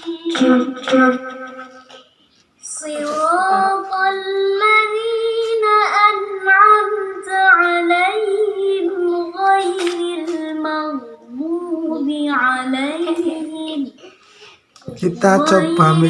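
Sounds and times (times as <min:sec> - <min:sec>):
high singing voice: 0:00.0 - 0:14.2, 0:14.8 - 0:16.0.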